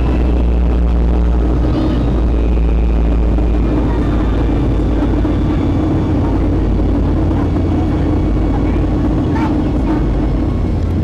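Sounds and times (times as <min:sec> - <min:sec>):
deep low hum: 0:00.0 - 0:11.0
jet engine roar in cabin: 0:00.0 - 0:11.0.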